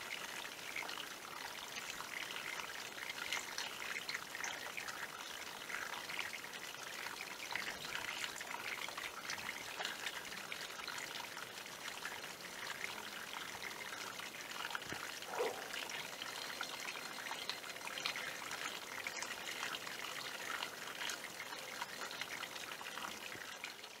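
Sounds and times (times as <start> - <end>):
stream trickling over stones: 0.0 - 24.0.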